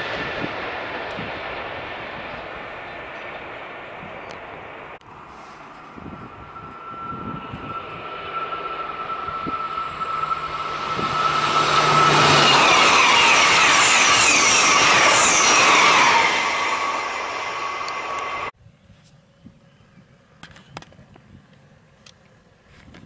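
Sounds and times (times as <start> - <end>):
high-speed train passing: 0.0 - 18.6.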